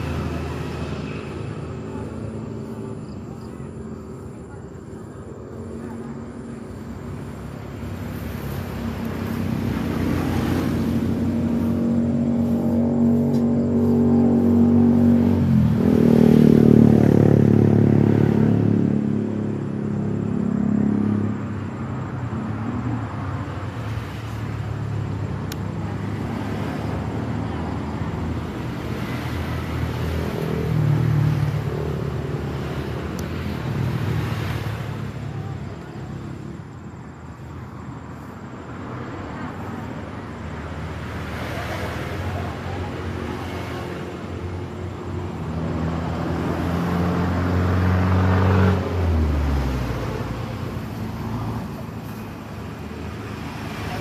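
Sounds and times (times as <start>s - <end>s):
road noise: 0.0s - 54.0s
vehicle engine: 0.0s - 54.0s.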